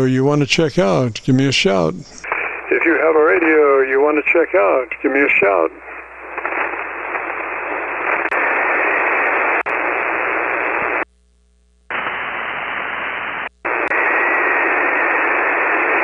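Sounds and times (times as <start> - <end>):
radio receiver hiss: 0.0 - 11.1, 11.9 - 16.0
sharp static clicks: 0.0 - 16.0.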